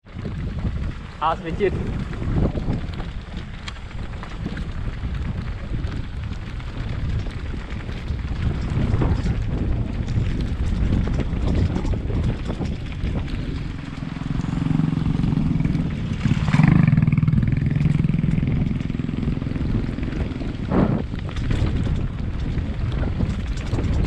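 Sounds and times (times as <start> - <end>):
motorcycle engine at low revs: 0.0 - 24.0
rumble and rattle of bumpy ride: 0.0 - 24.0
wind on microphone: 0.0 - 24.0.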